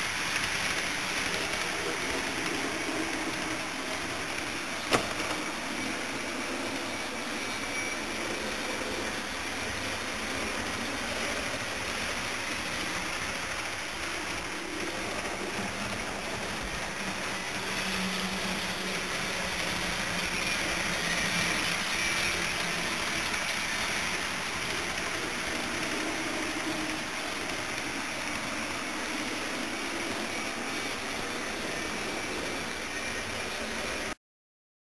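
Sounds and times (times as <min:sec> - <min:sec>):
model train running on track: 0:00.0 - 0:34.2.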